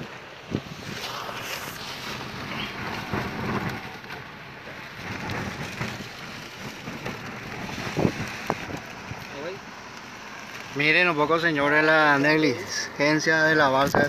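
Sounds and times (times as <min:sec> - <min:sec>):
rain and wind rushing: 0:00.0 - 0:14.0.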